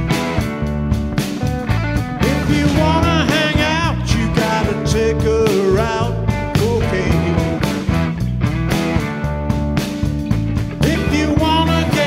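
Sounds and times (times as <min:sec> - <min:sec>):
bending lead guitar line: 0:00.0 - 0:12.0
blues-rock band playing: 0:00.0 - 0:12.0.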